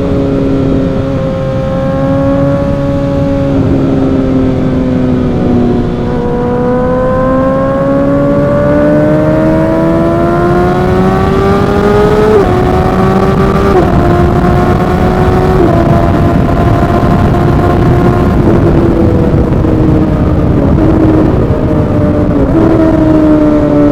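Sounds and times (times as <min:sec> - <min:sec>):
motorcycle engine accelerating: 0:00.0 - 0:23.9
wind rushing: 0:00.0 - 0:23.9.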